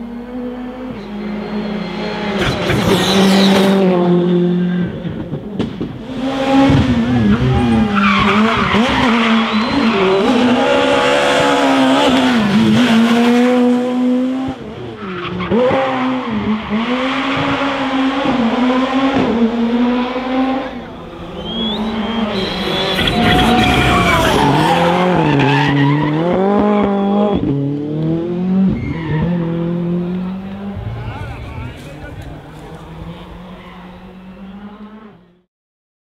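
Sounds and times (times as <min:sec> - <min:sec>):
rally car engines at full throttle: 0:00.0 - 0:35.5.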